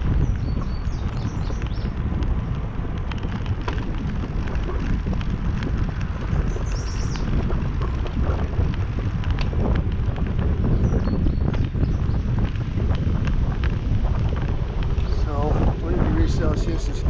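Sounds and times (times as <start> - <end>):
bicycle tyre rumble: 0.0 - 17.0
bike rattling clicks: 0.0 - 17.0
wind buffeting microphone: 0.0 - 17.0.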